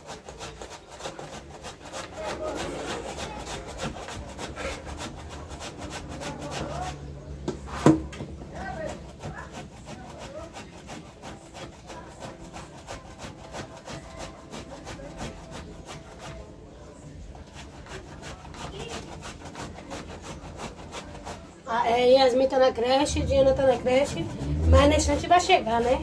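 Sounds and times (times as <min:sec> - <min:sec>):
food grated on metal grater: 0:00.0 - 0:07.2, 0:08.4 - 0:26.0.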